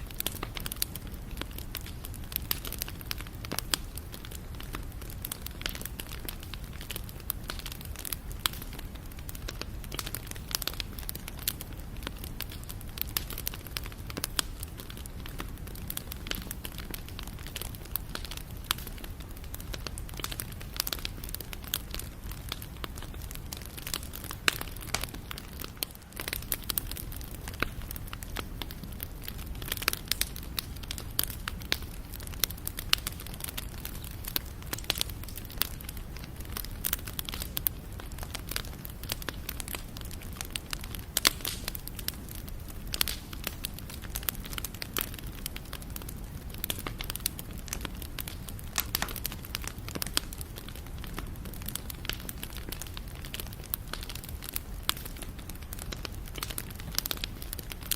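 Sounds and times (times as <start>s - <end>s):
campfire crackling and popping: 0.0s - 57.9s
low rumble of burning fire: 0.0s - 57.9s.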